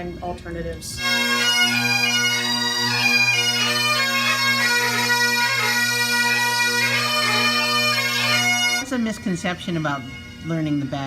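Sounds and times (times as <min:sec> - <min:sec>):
bagpipe playing a tune: 0:00.0 - 0:11.0.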